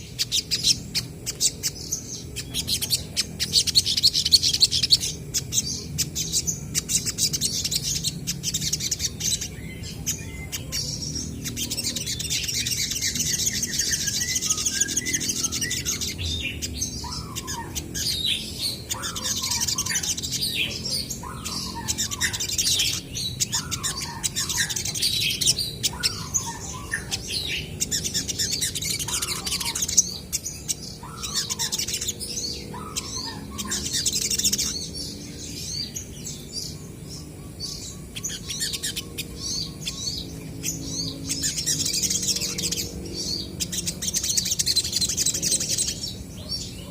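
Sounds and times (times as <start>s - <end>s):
birds trilling and chirping: 0.0s - 46.9s.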